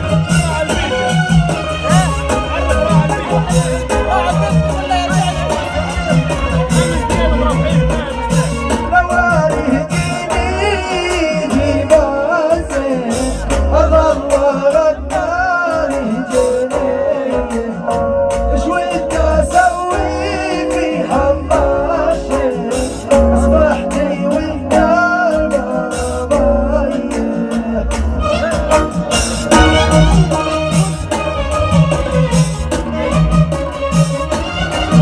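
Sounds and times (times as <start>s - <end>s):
heavy low beat: 0.0s - 35.0s
instrumental backing: 0.0s - 35.0s.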